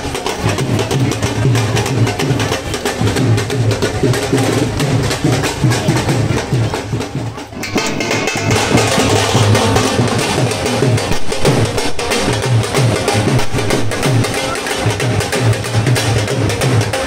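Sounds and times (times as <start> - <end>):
festival music with heavy drumming: 0.0 - 17.0.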